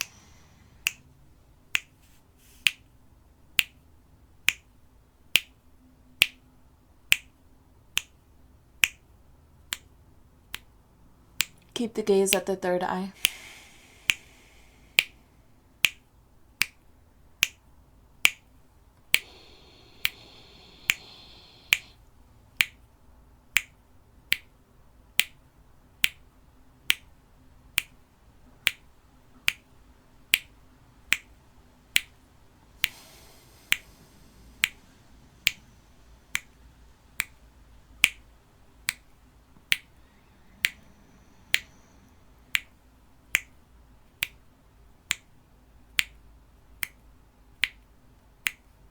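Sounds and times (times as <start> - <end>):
soft breath hiss: 0.0 - 48.9.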